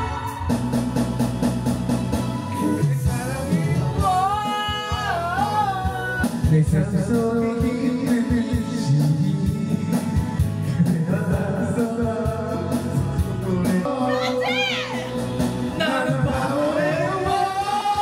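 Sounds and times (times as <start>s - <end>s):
person singing: 0.0s - 0.8s, 2.3s - 18.0s
karaoke backing track: 0.0s - 18.0s.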